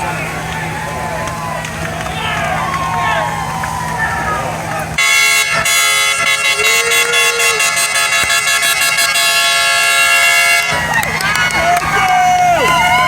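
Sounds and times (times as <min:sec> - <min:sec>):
boat air horn blast: 0:00.0 - 0:13.0.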